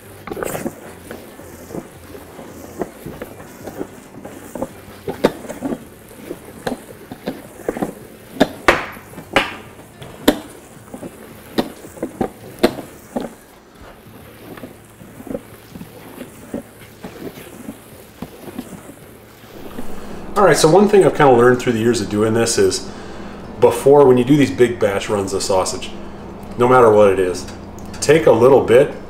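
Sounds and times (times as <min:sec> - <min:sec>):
meat mixer churning: 0:00.0 - 0:29.0.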